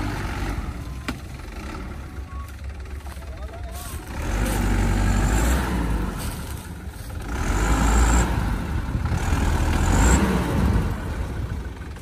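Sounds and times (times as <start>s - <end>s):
diesel truck engine labouring: 0.0s - 12.0s.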